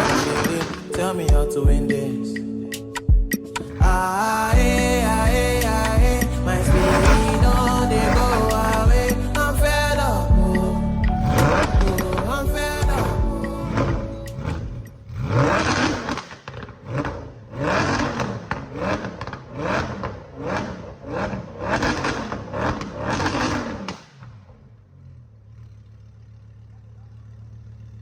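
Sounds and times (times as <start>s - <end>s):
car engine revving in blips: 2.8s - 26.7s.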